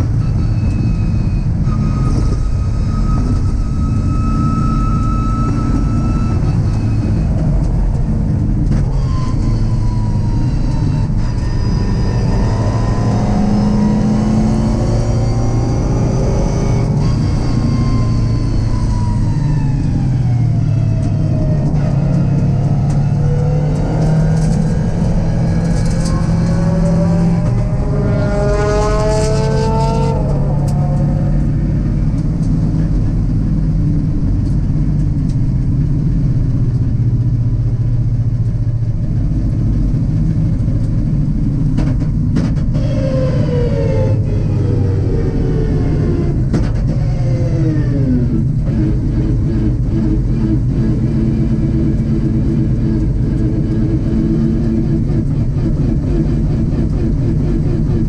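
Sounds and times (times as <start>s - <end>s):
road and wind noise: 0.0s - 58.0s
car engine running: 3.0s - 58.0s.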